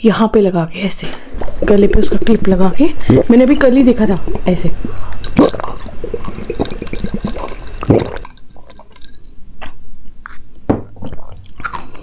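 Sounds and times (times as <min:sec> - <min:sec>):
person gulping a drink: 0:01.3 - 0:03.4, 0:04.2 - 0:12.0.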